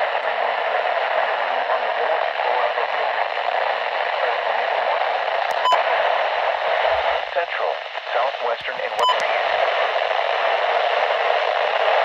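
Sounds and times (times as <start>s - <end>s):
faint voice on radio: 0.0s - 12.0s
radio static hiss: 0.0s - 12.0s.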